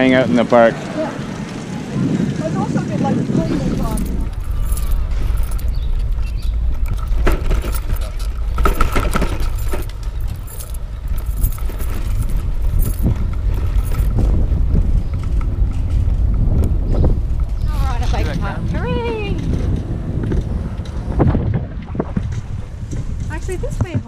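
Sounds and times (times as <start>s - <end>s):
bike clicking and rattling: 0.0s - 24.0s
wind buffeting microphone: 0.0s - 24.0s
tyre noise: 0.9s - 24.0s.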